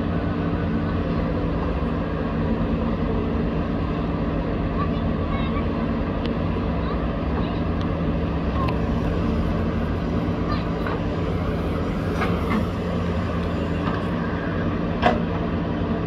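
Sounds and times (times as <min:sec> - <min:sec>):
diesel backhoe engines running: 0:00.0 - 0:16.0.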